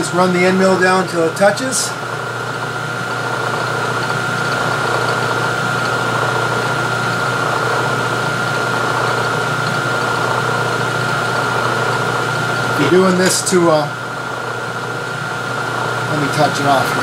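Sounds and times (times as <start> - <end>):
high whine: 0.0 - 17.0
milling machine motor hum: 0.0 - 17.0.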